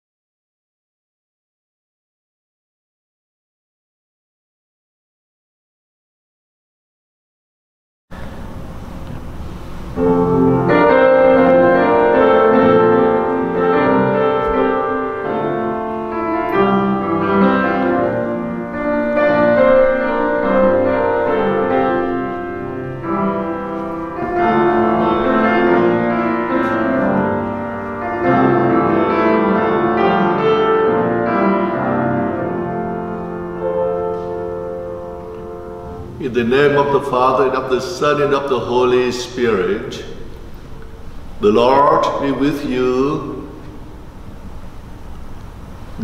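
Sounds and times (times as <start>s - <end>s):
keyboard chords: 8.1s - 46.0s.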